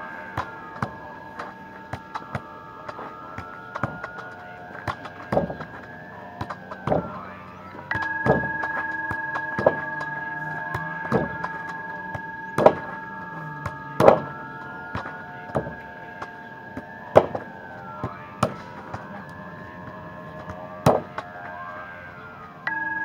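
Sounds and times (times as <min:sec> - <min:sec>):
steady high tone: 0:00.0 - 0:23.0
balls thudding against wooden boards: 0:00.1 - 0:21.7.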